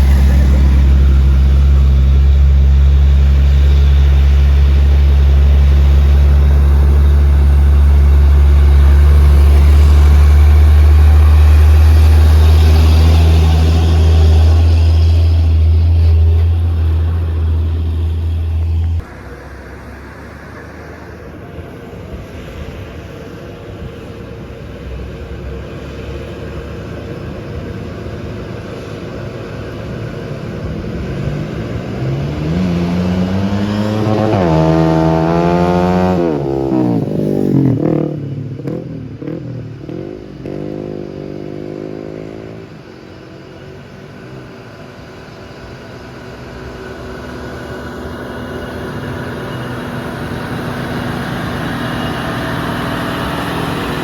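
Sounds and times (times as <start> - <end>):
truck engine labouring uphill: 0.0 - 54.0.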